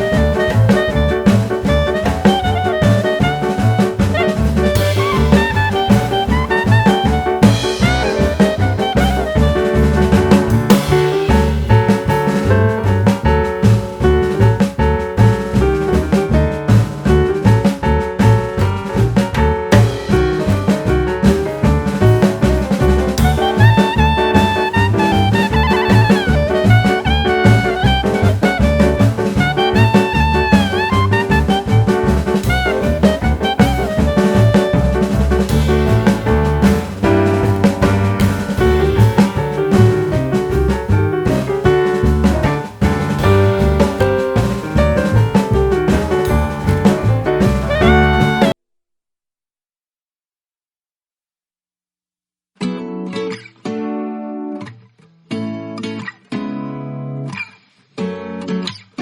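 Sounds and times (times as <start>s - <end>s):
upbeat jazzy instrumental music: 0.0s - 48.6s.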